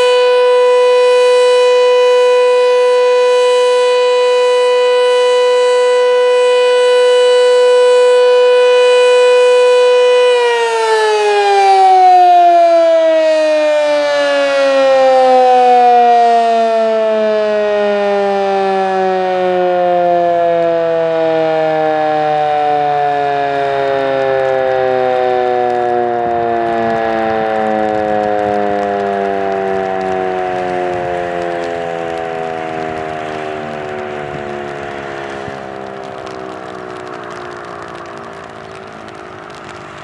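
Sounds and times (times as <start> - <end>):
warning siren winding down: 0.0 - 40.0.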